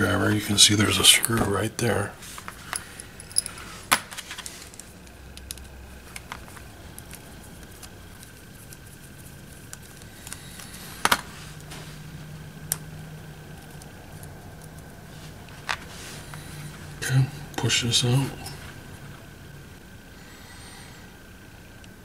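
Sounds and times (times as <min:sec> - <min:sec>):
faint steady background: 0:00.0 - 0:22.0.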